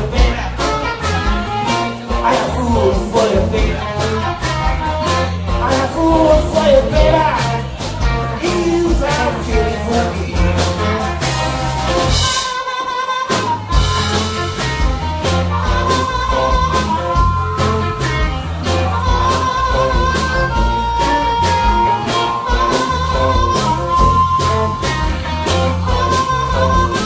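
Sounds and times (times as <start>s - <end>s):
harmonica solo: 0.0s - 7.2s, 10.8s - 27.0s
drums: 0.0s - 27.0s
guitar: 0.0s - 27.0s.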